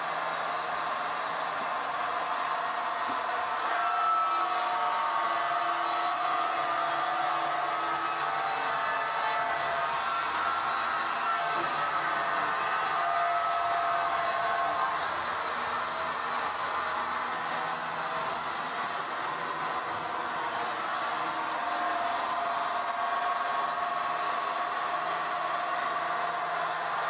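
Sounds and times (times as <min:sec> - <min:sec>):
band sawmill running: 0:00.0 - 0:27.0.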